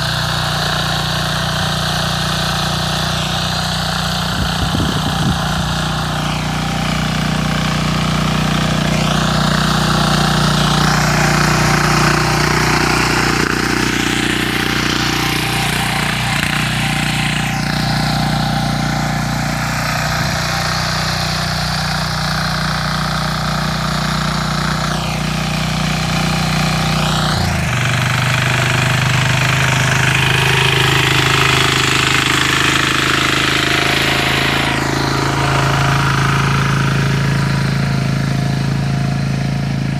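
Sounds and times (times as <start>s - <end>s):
tiller engine running: 0.0s - 39.9s
tines grinding hard soil: 0.0s - 39.9s.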